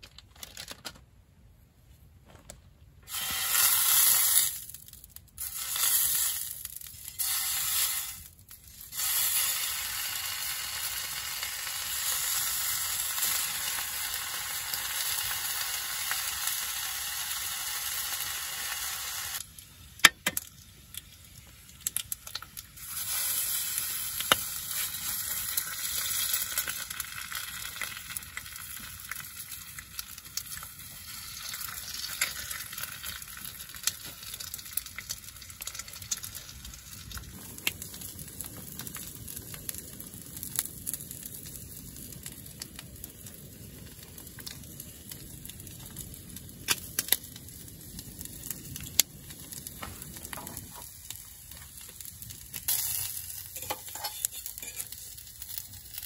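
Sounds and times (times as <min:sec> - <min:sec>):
food sizzling on a grill: 0:03.1 - 0:56.0.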